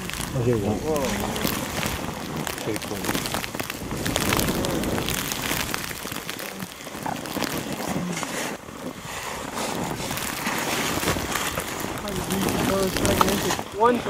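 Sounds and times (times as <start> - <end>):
jacket fabric rustling on microphone: 0.0 - 14.0.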